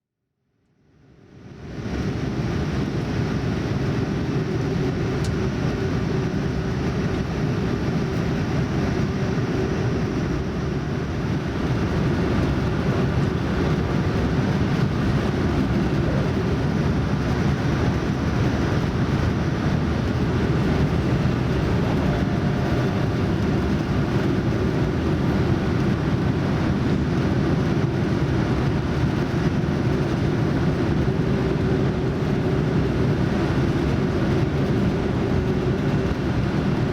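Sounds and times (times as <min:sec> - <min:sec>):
airliner cabin noise: 0:01.2 - 0:36.9.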